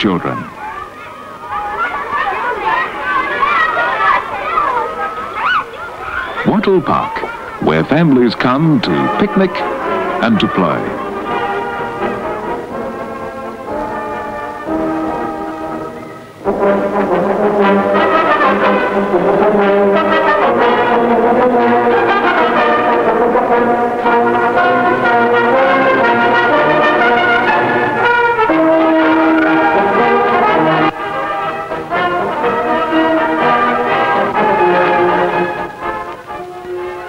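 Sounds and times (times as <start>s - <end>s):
brass-led orchestral music: 1.8s - 5.3s, 7.6s - 37.0s.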